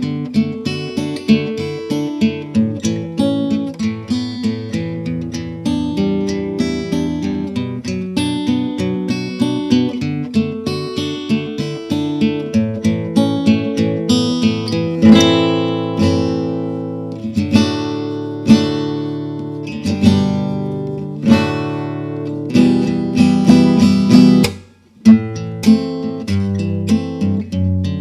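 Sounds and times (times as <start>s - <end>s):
acoustic guitars strumming chords: 0.0s - 28.0s.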